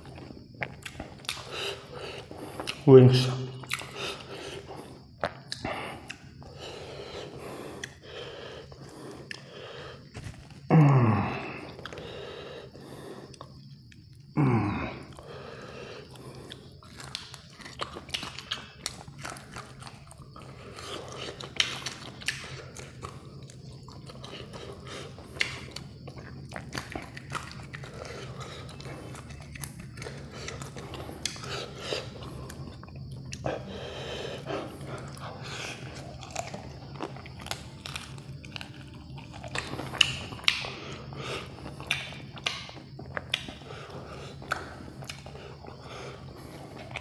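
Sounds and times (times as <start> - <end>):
chewing and crunching fried chicken: 0.0 - 47.0.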